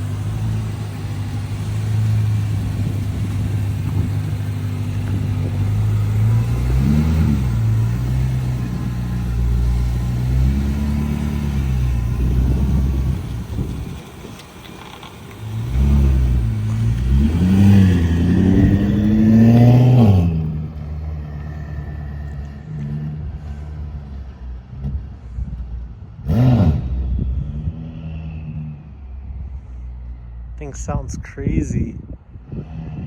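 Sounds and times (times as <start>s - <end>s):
car engine revving: 0.0s - 25.0s, 26.2s - 30.7s.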